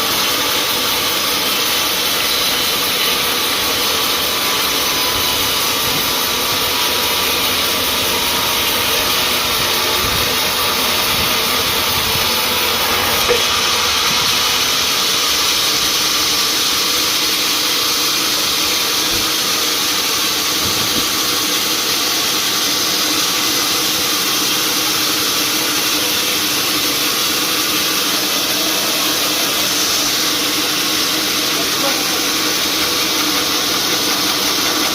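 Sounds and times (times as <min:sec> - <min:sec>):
sawmill machinery running: 0:00.0 - 0:34.9.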